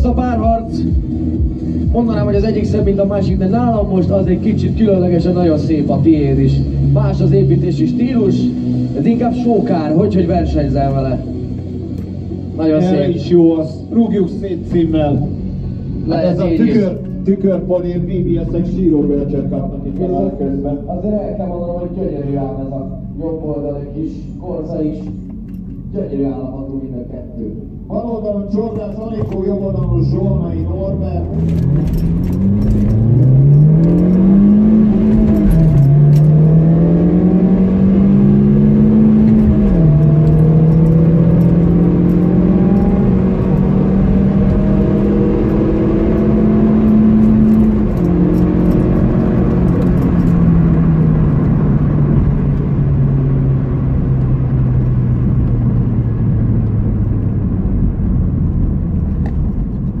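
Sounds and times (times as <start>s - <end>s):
car engines at full throttle: 0.0s - 60.0s.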